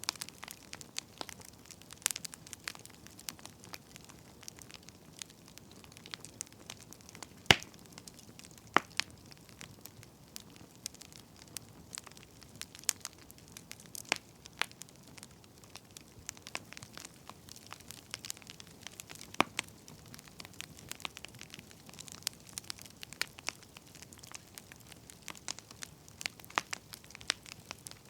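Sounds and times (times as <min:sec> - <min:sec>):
firewood crackling and popping: 0:00.0 - 0:28.0.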